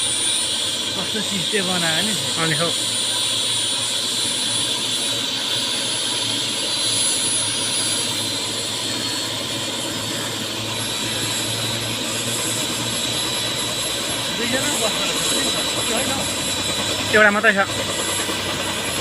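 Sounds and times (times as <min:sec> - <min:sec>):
helicopter engine and rotor: 0:00.0 - 0:19.0
high turbine whine: 0:00.0 - 0:19.0.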